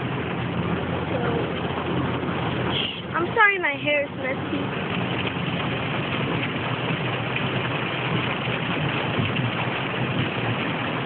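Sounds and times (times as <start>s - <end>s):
heavy rain on a car: 0.0s - 11.0s.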